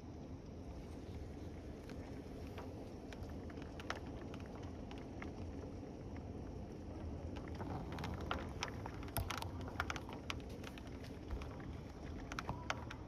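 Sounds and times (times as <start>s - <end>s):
low rumble of wind: 0.0s - 13.0s.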